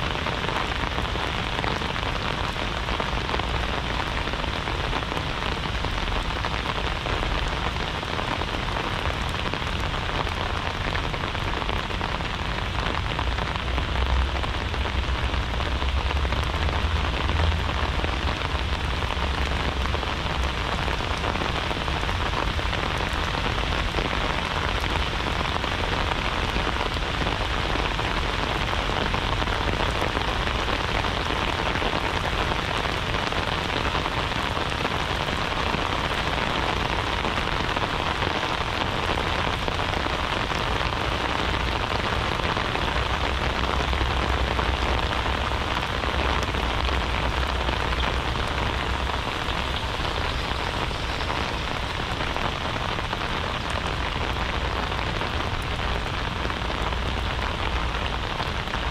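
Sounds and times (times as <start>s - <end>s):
rain pattering: 0.0s - 58.9s.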